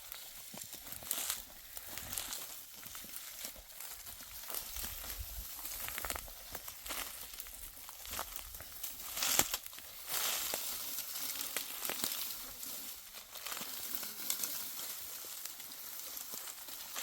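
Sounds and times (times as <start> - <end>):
dry material crackling and rustling: 0.0 - 17.0.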